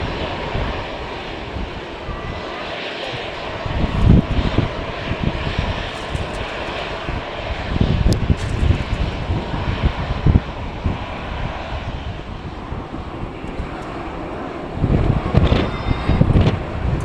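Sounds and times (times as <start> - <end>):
airliner engine hiss: 0.0 - 17.0
wind buffeting microphone: 0.0 - 17.0.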